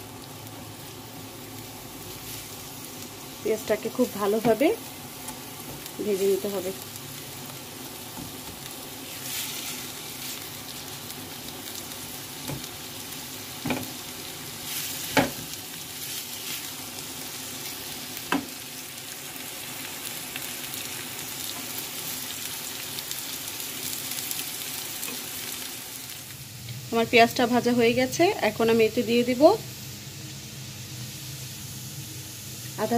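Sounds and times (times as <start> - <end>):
onions sizzling in a pan: 0.0 - 32.9.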